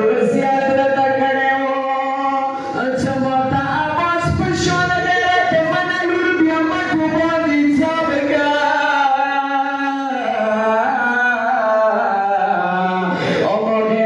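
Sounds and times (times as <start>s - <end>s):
man chanting a mournful lament: 0.0s - 14.0s.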